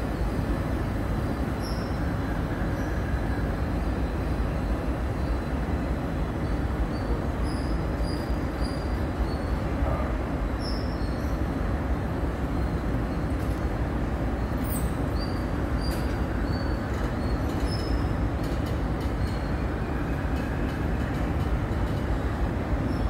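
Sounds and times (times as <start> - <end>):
train coaches rumbling past: 0.0 - 23.0.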